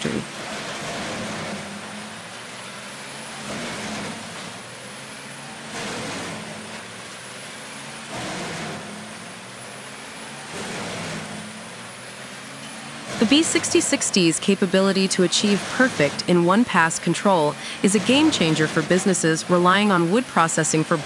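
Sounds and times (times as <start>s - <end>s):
wood grinder engine drone: 0.0s - 21.0s.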